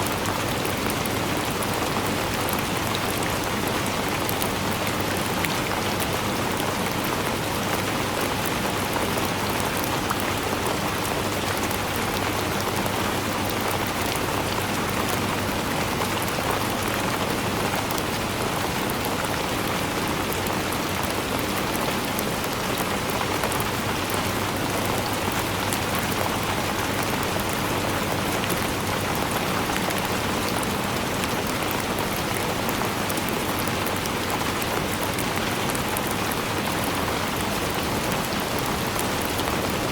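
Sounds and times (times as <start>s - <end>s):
raindrops pattering: 0.0s - 39.9s.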